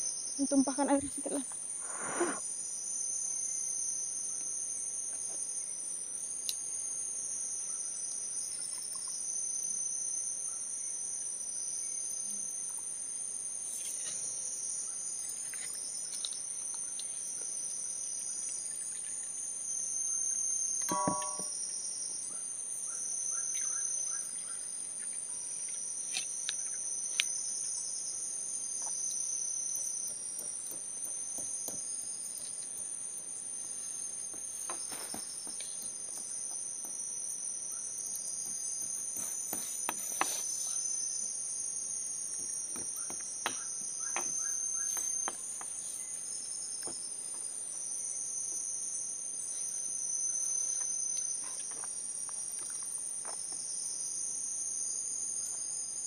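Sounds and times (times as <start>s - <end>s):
insects droning and trilling: 0.0s - 56.0s.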